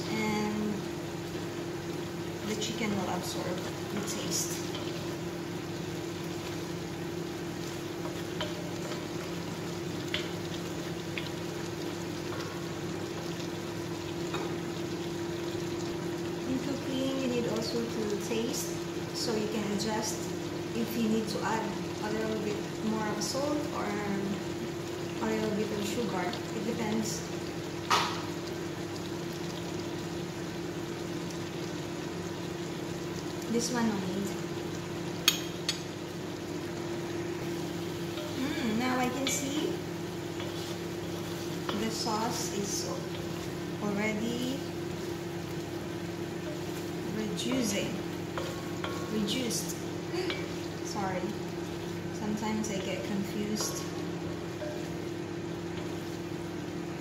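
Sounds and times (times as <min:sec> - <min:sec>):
sauce sizzling and bubbling: 0:00.0 - 0:57.0.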